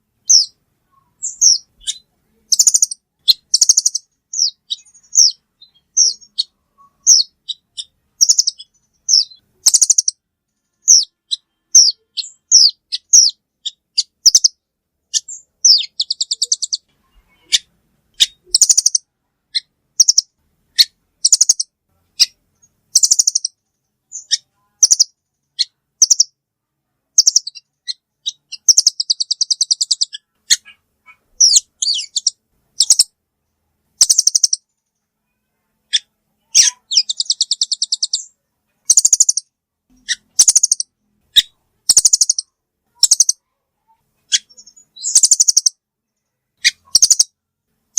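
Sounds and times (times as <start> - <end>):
bird chirping: 0.0 - 26.4, 27.0 - 47.4.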